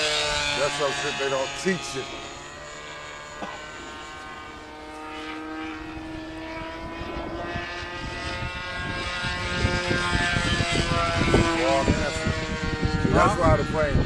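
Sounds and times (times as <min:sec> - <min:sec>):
model airplane engine droning: 0:00.0 - 0:14.0.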